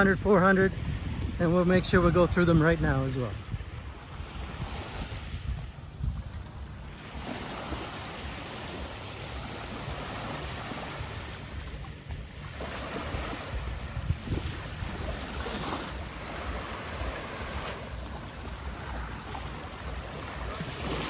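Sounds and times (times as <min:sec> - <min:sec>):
waves breaking on beach: 0:00.0 - 0:21.0
wind buffeting microphone: 0:00.0 - 0:21.0.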